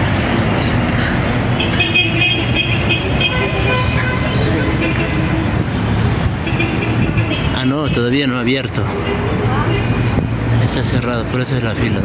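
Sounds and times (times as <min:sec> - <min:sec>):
large vehicle engine rumbling: 0:00.0 - 0:12.0.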